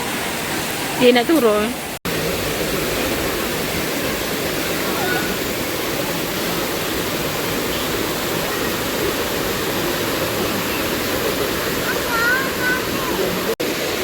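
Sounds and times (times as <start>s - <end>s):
waterfall pouring: 0.0s - 14.0s.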